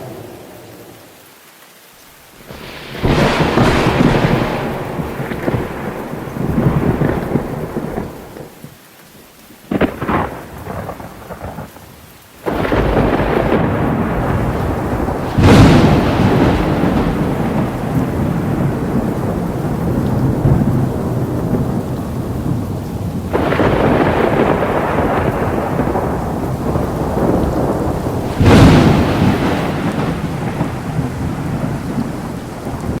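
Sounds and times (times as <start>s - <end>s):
heavy rain: 0.0s - 33.0s
loud thunderclaps: 2.4s - 8.6s, 9.7s - 11.7s, 12.4s - 33.0s.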